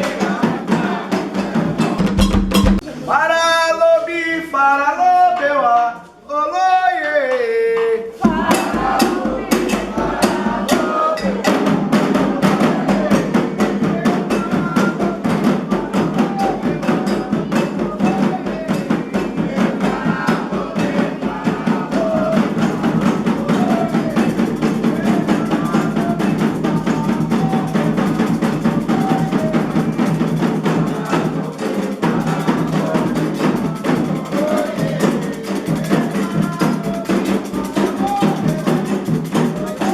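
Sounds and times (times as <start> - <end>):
hand drums: 0.0 - 2.9, 8.2 - 39.9
voices singing: 0.0 - 39.9.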